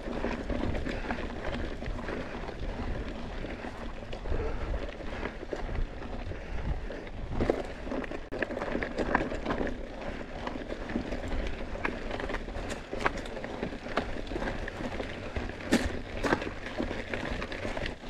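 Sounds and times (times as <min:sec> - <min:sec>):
bike rattling over bumps: 0:00.0 - 0:18.0
bike tyres rolling on dirt: 0:00.0 - 0:18.0.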